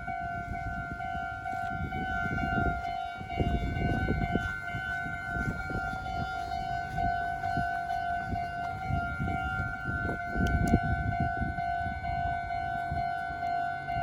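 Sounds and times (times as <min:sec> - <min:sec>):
electronic crossing bell pulsing: 0:00.0 - 0:14.0.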